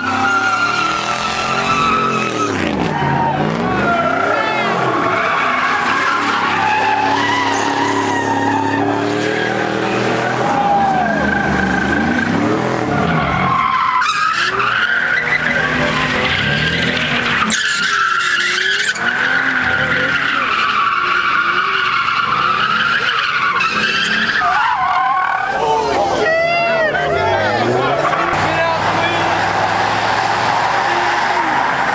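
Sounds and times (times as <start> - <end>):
car engine at high revs: 0.0 - 24.4, 26.9 - 31.9
tyres screeching: 0.0 - 31.9.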